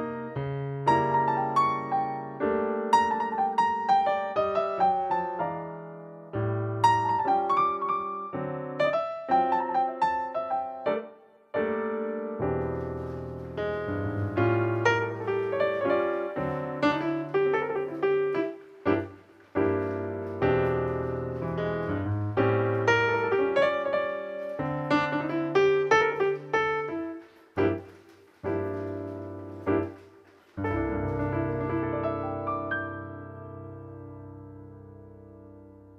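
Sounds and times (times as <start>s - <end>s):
gentle piano music: 0.0s - 35.9s.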